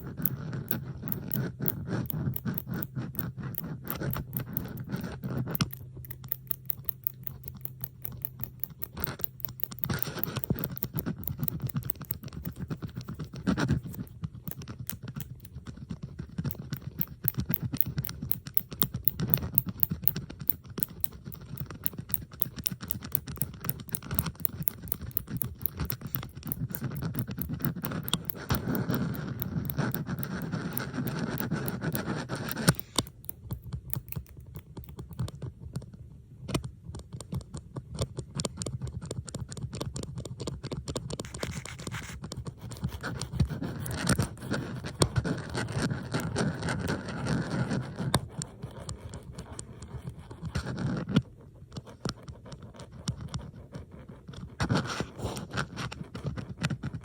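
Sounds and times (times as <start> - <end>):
metal bobby pins scraping and clicking: 0.0 - 35.9, 36.5 - 57.0.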